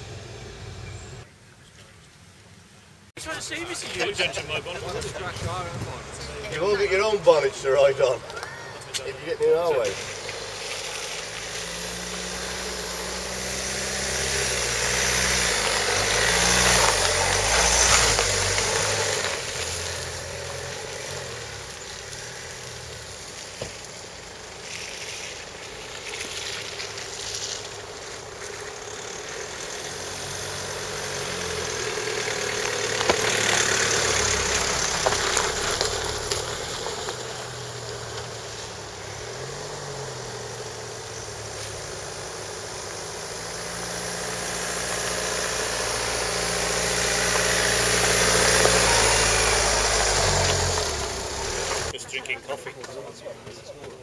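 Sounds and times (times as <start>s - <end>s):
tyres on gravel: 3.2s - 54.0s
car engine running: 3.6s - 52.4s.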